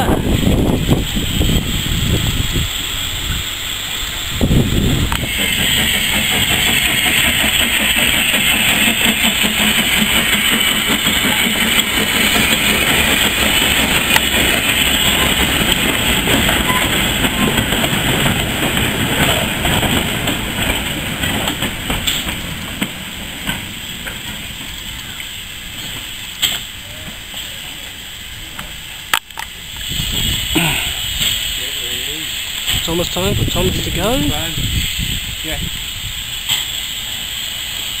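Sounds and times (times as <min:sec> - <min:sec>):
train wagons rolling on rails: 0:00.0 - 0:38.0.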